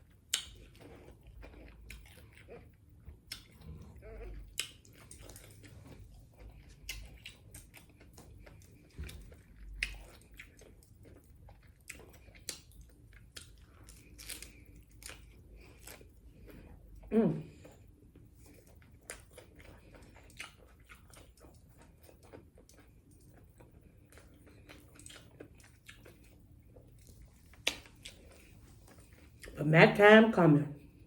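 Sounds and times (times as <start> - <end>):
person chewing food: 0.0 - 29.6.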